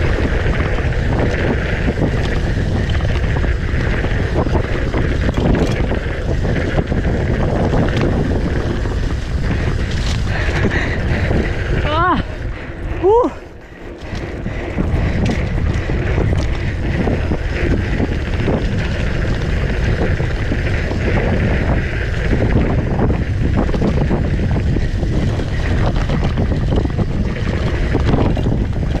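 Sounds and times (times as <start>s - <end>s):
bike rattling over rough ground: 0.0s - 29.0s
wind rushing over microphone: 0.0s - 29.0s.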